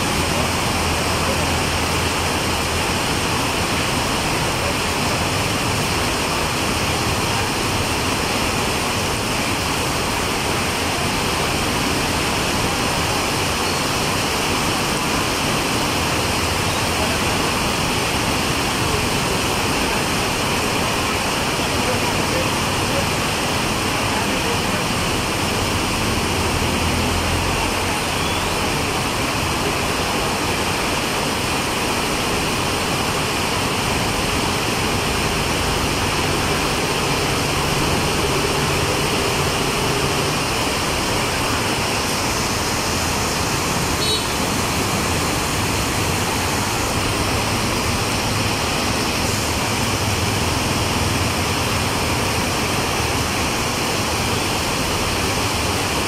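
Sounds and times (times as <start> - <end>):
heavy rain on street: 0.0 - 56.0
vehicles passing through water: 0.0 - 56.0.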